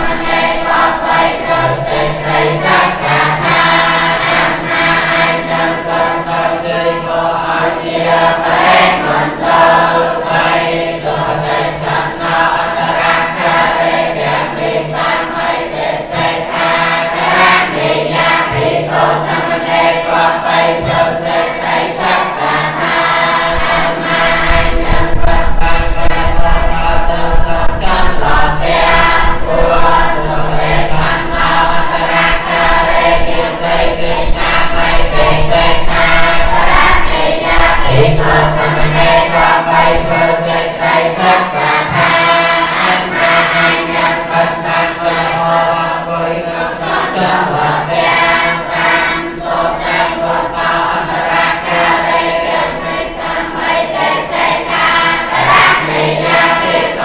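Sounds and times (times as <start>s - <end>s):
monks chanting in unison: 0.0s - 57.0s.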